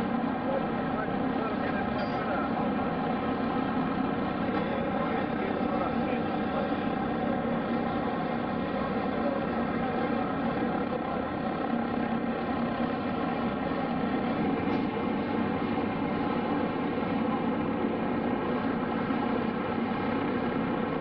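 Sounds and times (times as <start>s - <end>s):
propeller aircraft engine drone: 0.0s - 21.0s.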